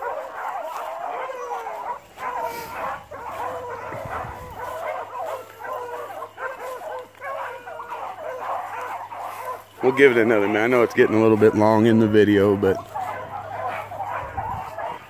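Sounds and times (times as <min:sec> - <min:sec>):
hounds baying: 0:00.0 - 0:15.0.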